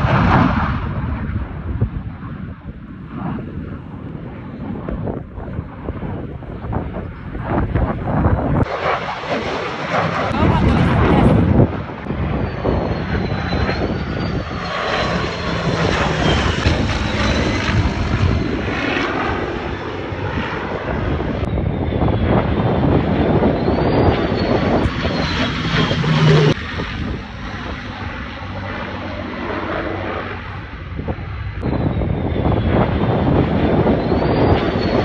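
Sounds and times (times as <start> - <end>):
jet engines flying overhead: 0.0 - 35.0.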